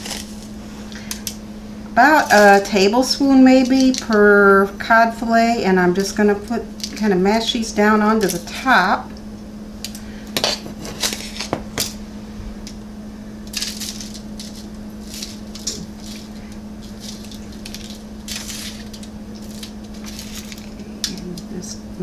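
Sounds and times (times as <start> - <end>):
crackly rustles of crumbs and foil: 0.0 - 1.4, 2.0 - 5.3, 5.9 - 8.7, 9.8 - 12.0, 13.4 - 22.0
steady low hum: 0.0 - 22.0.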